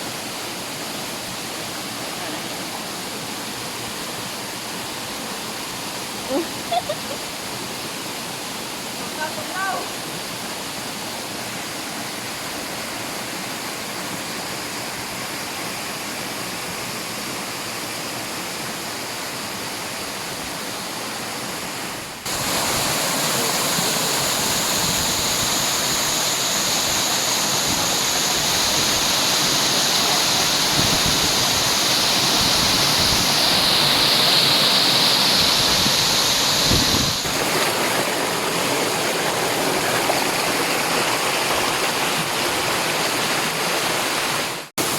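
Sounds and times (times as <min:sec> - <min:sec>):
rushing water of a waterfall: 0:00.0 - 0:44.9.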